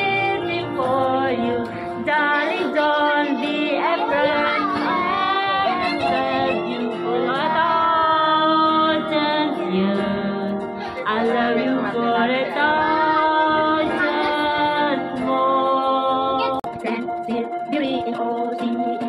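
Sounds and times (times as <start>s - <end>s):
instrumental accompaniment: 0.0s - 19.0s
woman singing slow song: 0.0s - 19.0s.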